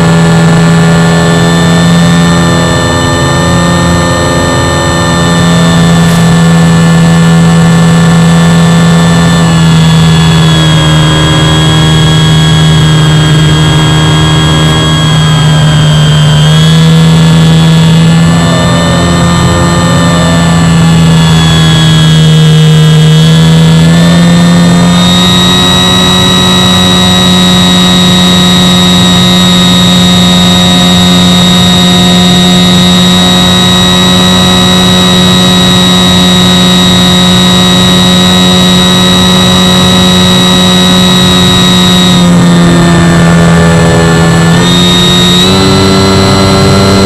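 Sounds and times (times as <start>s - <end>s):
electric motor and propeller whine: 0.0s - 47.0s.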